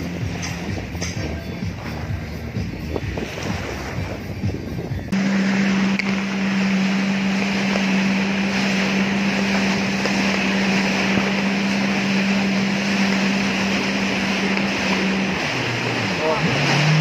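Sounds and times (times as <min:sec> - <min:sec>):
jet ski engine drone: 0:00.0 - 0:17.0
spraying water: 0:00.0 - 0:17.0
wind rushing: 0:01.6 - 0:17.0.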